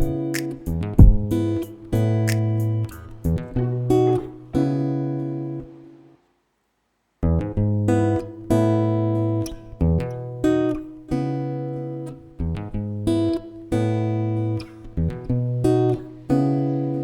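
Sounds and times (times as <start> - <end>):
plucked acoustic guitar: 0.0 - 5.9, 7.2 - 17.0.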